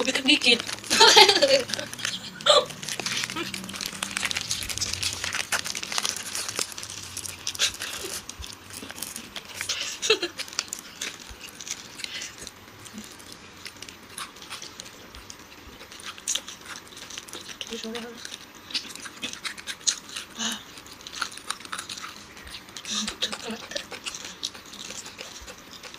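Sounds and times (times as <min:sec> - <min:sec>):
plastic wrappers crinkling and tearing: 0:00.0 - 0:25.9.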